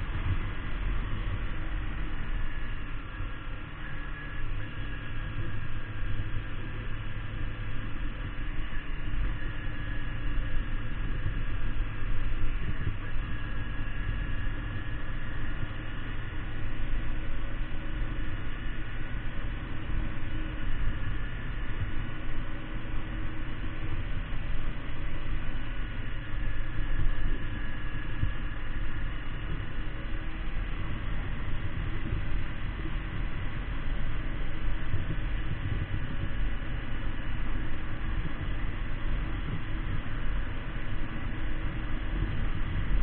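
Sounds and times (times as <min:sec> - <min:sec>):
motorcycle engine running: 0:00.0 - 0:43.0
wind noise: 0:00.0 - 0:43.0.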